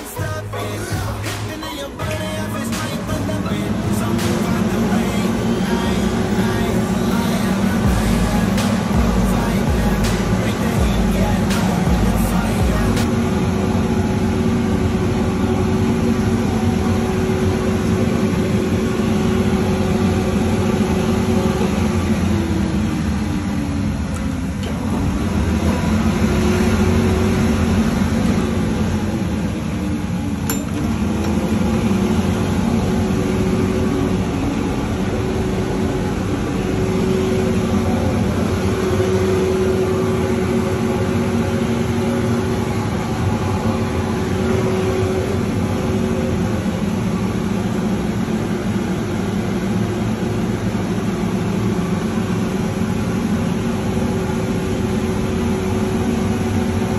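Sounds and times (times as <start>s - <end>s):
tumble dryer running: 0.0s - 56.9s.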